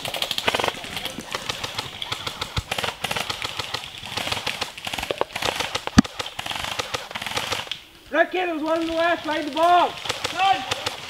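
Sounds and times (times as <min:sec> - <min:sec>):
airsoft guns firing: 0:00.0 - 0:07.7, 0:08.8 - 0:11.0.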